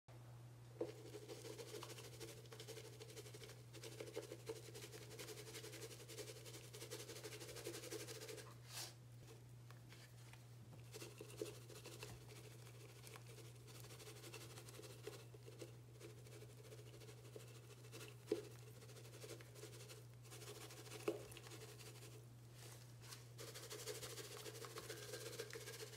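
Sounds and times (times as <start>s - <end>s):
low steady hum: 0.1s - 25.9s.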